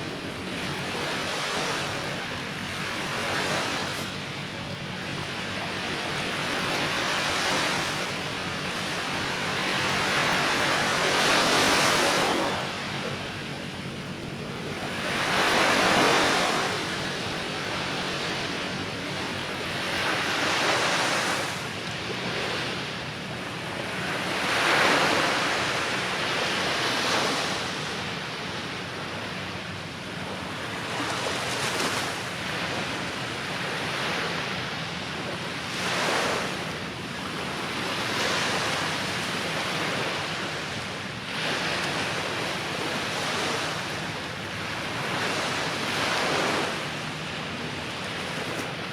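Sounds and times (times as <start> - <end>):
waves breaking on beach: 0.0 - 48.9.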